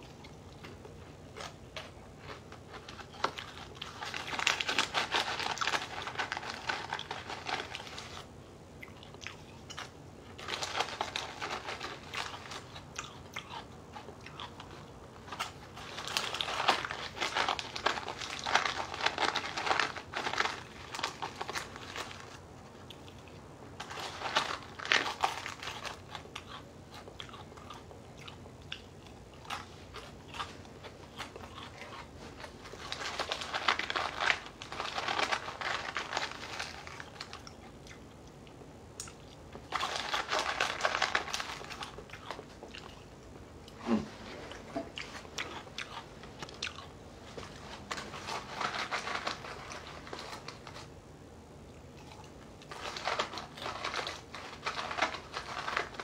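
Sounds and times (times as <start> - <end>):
crunching dry cereal: 0.0 - 51.0, 51.8 - 56.0.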